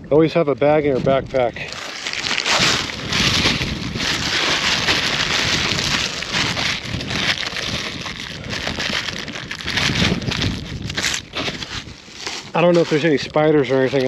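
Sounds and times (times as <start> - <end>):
plastic bag crinkling: 1.1 - 14.0.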